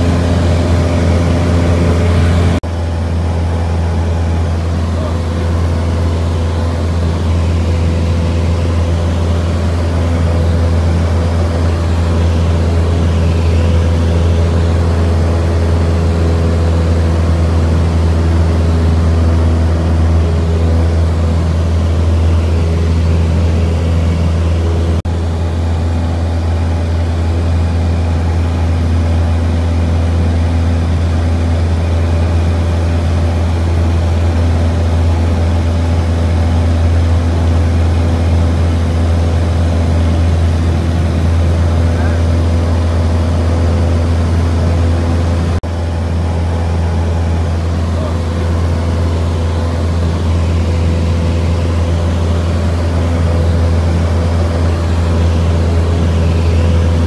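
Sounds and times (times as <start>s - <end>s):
propeller engine droning: 0.0s - 57.0s.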